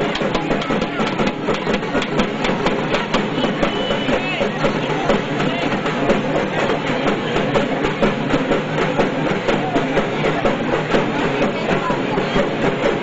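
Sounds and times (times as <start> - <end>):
drums beating fast rhythm: 0.0 - 13.0
large crowd noise: 0.0 - 13.0.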